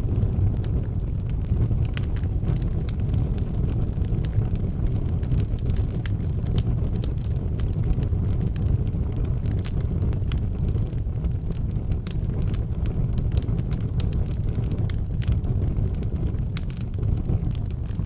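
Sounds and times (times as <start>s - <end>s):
fire crackling and popping: 0.0s - 18.0s
low rumble of fire: 0.0s - 18.0s.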